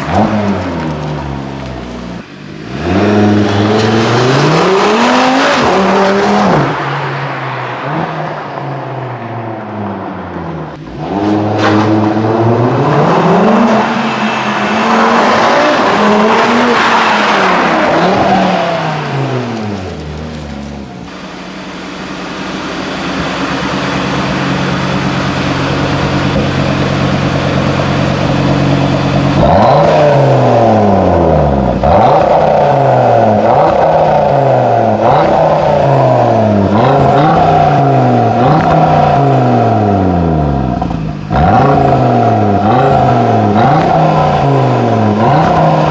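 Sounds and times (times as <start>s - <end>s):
car engine revving and idling: 0.0s - 45.9s.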